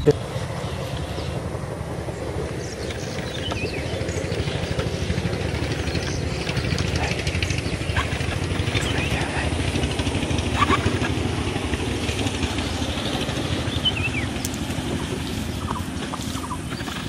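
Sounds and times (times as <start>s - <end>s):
engine running with low throb: 0.0s - 17.0s.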